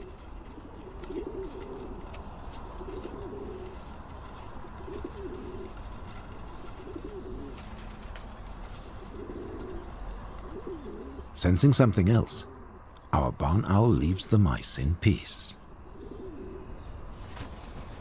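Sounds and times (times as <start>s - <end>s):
pigeons cooing: 0.0s - 13.0s, 15.7s - 17.2s.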